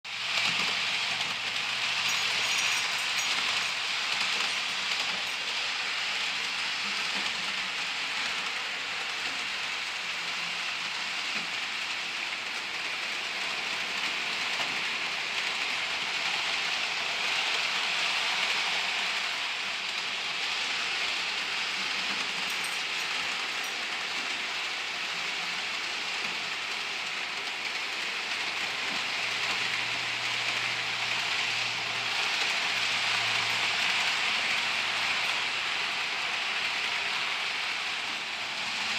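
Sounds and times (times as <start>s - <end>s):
model train wheels rattling on rails: 0.1s - 38.9s.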